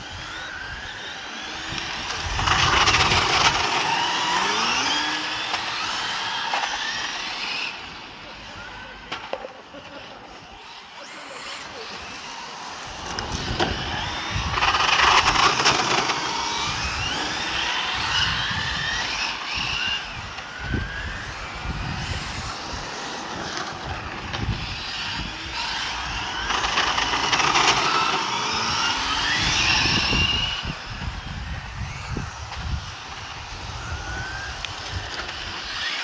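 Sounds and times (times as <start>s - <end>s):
electric rc car motors whining: 0.0s - 36.0s.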